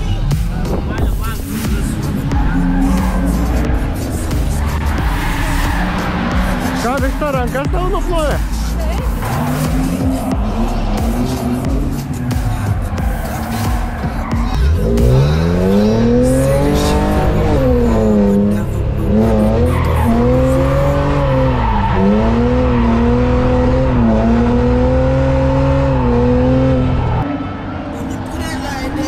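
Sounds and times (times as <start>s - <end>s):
car engine revving hard: 0.5s - 27.3s
tyres squealing: 1.1s - 29.0s.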